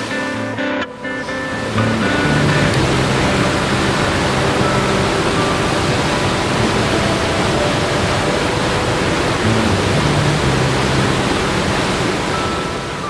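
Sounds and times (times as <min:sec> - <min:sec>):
faint background music: 0:00.0 - 0:13.0
waterfall rushing water: 0:00.0 - 0:13.0.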